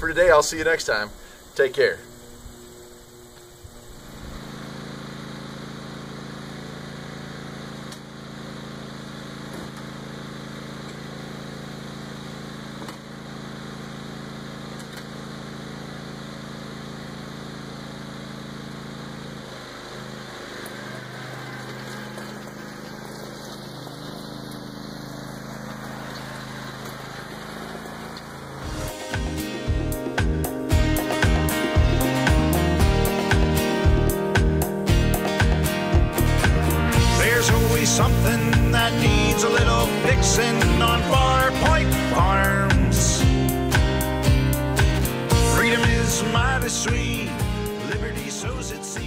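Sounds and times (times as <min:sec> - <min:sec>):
lawn tractor engine running: 0:00.0 - 0:49.0.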